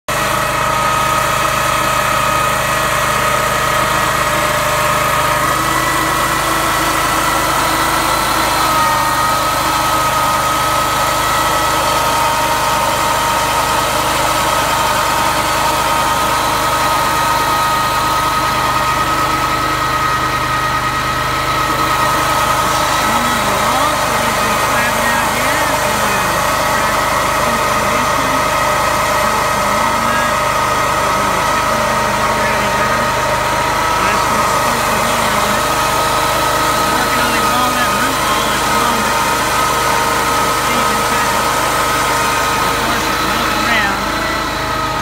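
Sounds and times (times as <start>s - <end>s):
sawmill blade whining: 0.0s - 45.0s.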